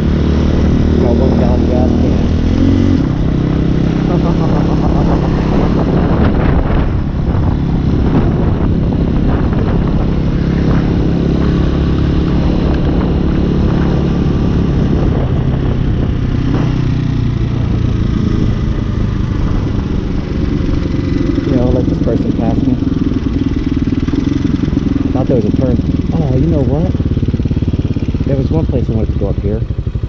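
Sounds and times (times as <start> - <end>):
motorcycle engine running: 0.0 - 30.0
road noise: 0.0 - 30.0
wind noise: 0.0 - 30.0.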